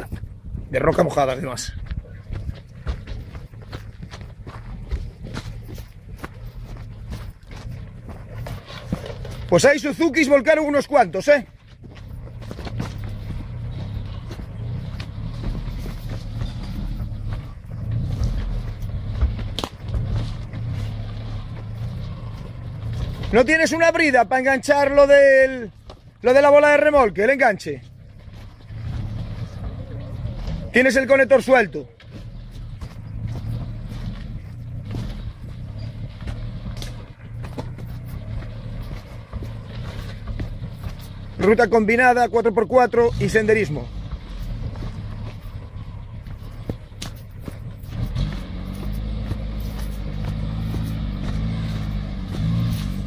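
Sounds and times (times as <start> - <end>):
off-road engine at low revs: 0.0 - 53.0.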